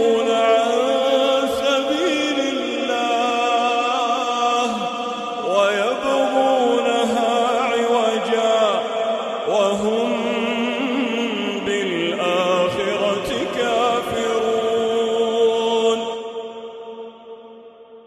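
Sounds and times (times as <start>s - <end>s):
man chanting recitation: 0.0s - 16.6s.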